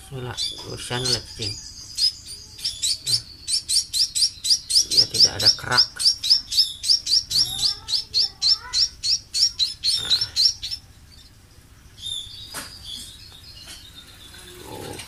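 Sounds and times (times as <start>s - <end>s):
nestling bird begging chirps: 0.0s - 15.0s.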